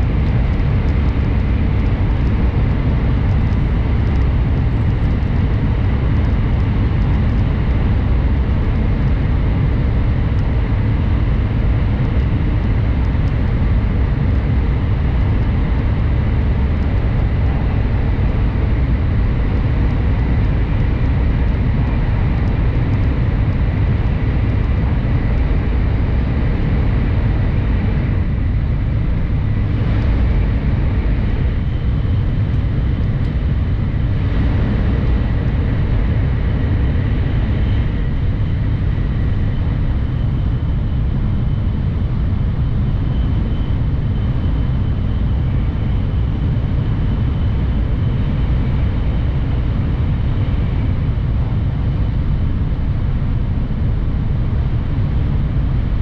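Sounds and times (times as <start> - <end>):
train rumbling in a tunnel: 0.0 - 56.0.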